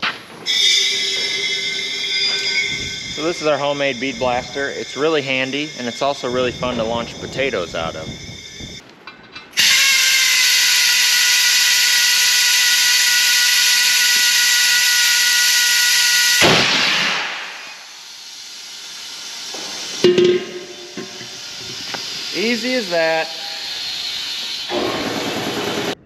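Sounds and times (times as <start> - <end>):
compressed air hissing: 0.5 - 8.8, 9.6 - 26.0.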